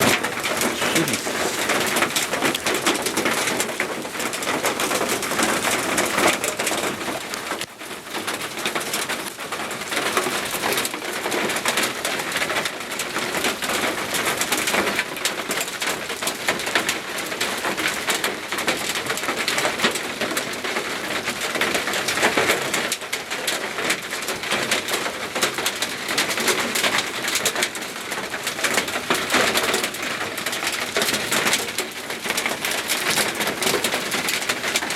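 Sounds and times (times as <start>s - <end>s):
hailstones pelting down: 0.0s - 34.9s.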